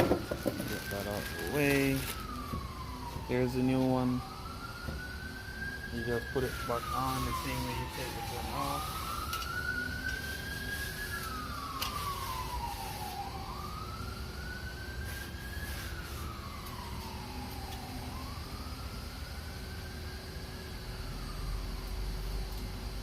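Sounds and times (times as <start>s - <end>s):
emergency siren wailing: 0.0s - 23.0s.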